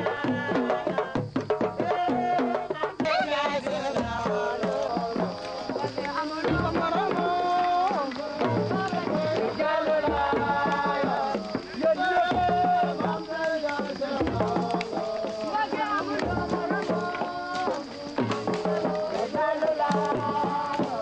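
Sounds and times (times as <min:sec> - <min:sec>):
drums with deep beat: 0:00.0 - 0:21.0.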